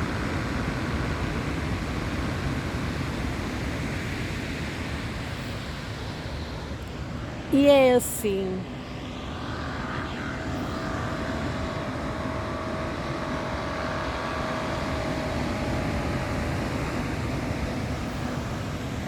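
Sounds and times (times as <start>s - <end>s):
distant engine drone with whine: 0.0s - 19.0s.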